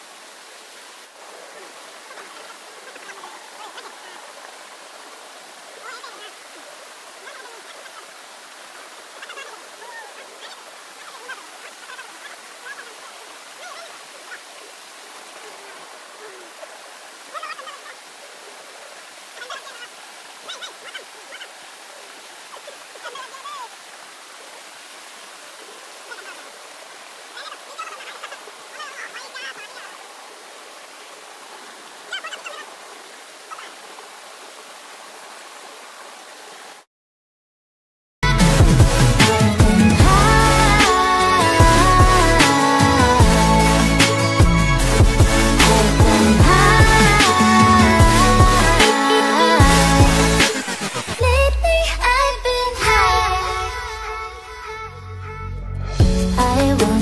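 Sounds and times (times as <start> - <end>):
small waterfall cascading over rock: 0.0 - 36.9, 38.3 - 55.4.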